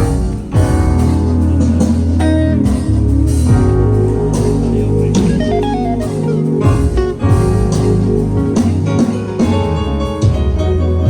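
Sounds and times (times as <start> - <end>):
bass guitar notes: 0.0 - 11.0
electric guitar melody: 0.0 - 11.0.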